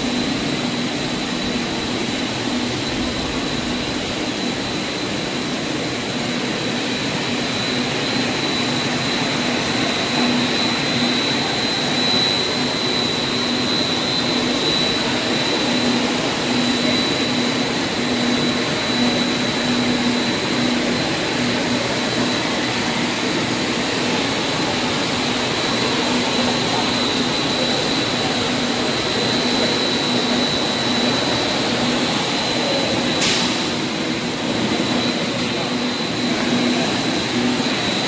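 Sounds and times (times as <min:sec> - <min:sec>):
machine rush with high whine: 0:00.0 - 0:38.0.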